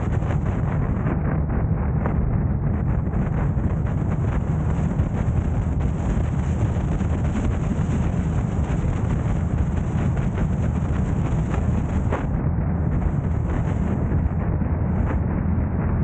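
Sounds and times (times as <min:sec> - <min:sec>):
car road and wind noise: 0:00.0 - 0:16.0.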